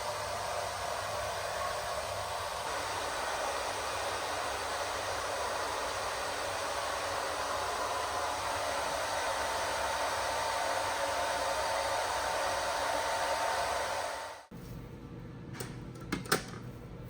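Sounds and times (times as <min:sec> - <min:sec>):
hair dryer blowing: 0:00.0 - 0:14.5.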